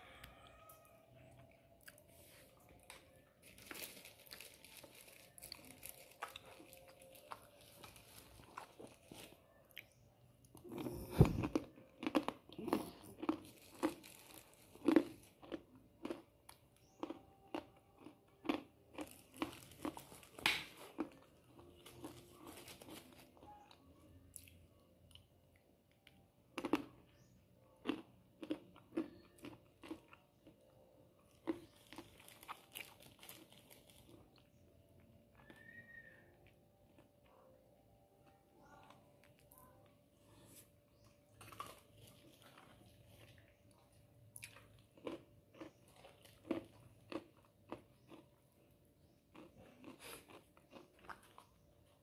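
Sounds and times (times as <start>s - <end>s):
person chewing crunchy snack: 0.6s - 34.7s, 38.2s - 52.0s.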